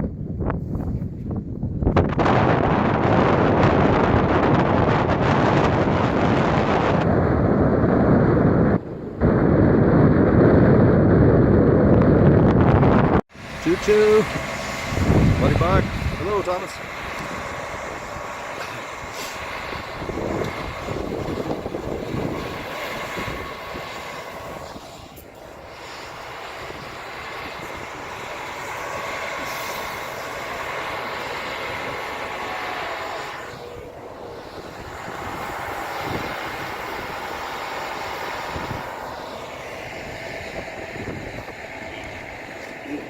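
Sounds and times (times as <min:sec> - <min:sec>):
road travel noise: 0:00.0 - 0:43.0
vehicle engine hum: 0:00.0 - 0:43.0.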